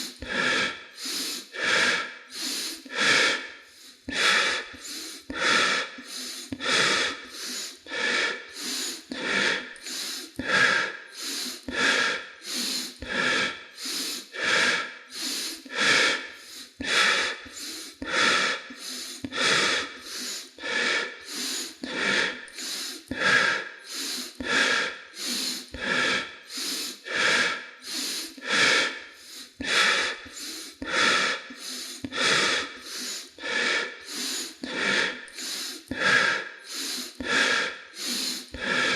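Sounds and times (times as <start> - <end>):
person breathing rapidly: 0.0 - 38.9.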